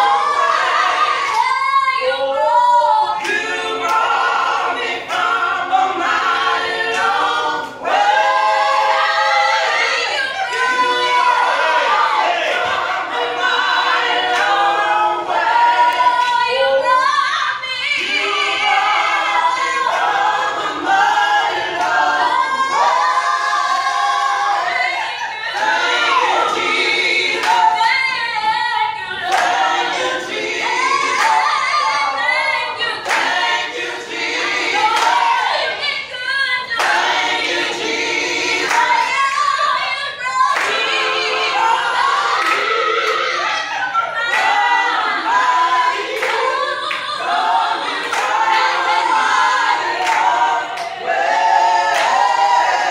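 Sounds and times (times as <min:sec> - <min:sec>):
vocal group singing a cappella: 0:00.0 - 0:52.9.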